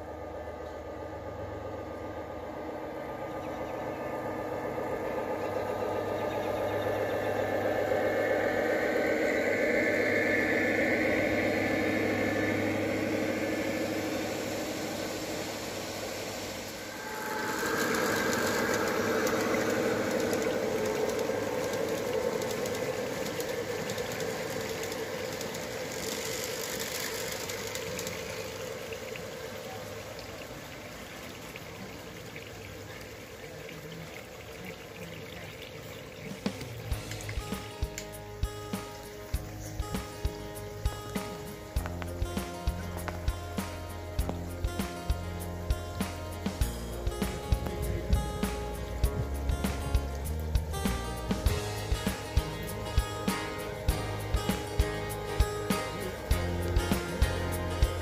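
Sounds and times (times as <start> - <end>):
model train running on rails: 0.0 - 58.0.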